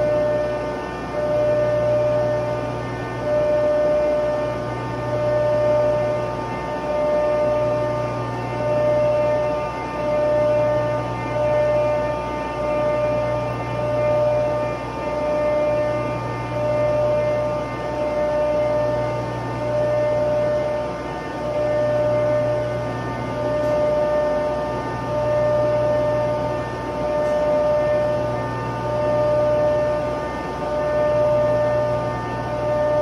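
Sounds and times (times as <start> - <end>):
machinery hum: 0.0 - 33.0
mid-pitched whine: 0.0 - 33.0.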